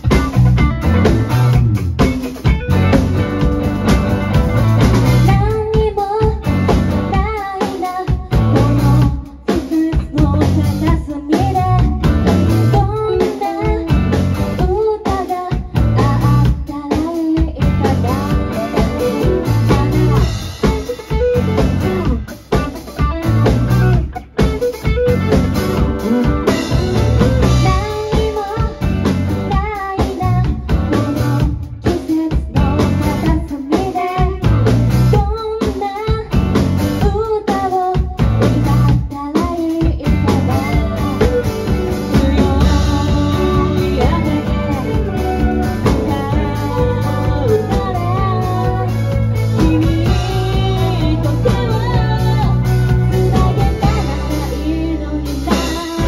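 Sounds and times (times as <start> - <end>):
bass guitar: 0.0 - 56.0
drum kit: 0.0 - 56.0
electric guitars: 0.0 - 56.0
woman singing: 5.1 - 22.2, 26.0 - 56.0.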